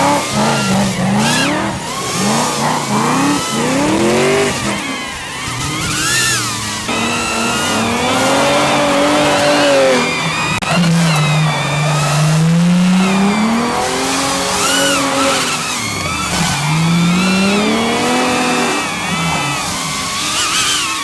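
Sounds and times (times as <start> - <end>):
car engine revving: 0.0 - 21.0
tyre squeal: 0.0 - 21.0.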